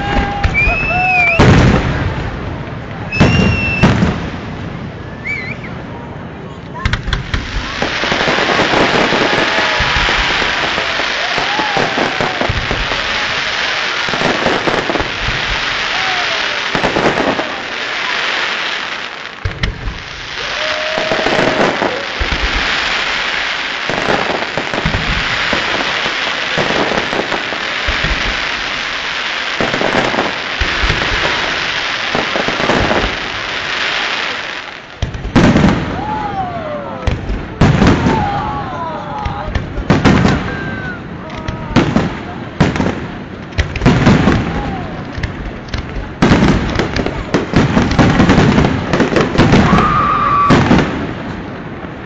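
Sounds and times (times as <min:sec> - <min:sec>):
fireworks whistling: 0:00.0 - 0:02.0, 0:03.0 - 0:04.3, 0:04.9 - 0:06.0, 0:06.8 - 0:38.6, 0:43.6 - 0:51.4
fireworks booming: 0:00.0 - 0:52.0
fireworks crackling: 0:00.0 - 0:52.0.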